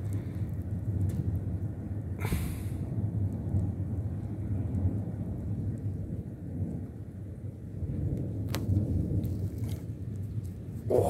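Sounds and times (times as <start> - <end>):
rolling thunder: 0.0 - 11.0.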